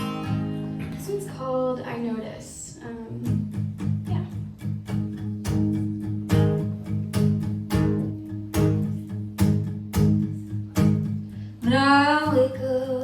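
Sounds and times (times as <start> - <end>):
acoustic guitar strumming: 0.0 - 2.4, 3.0 - 13.0.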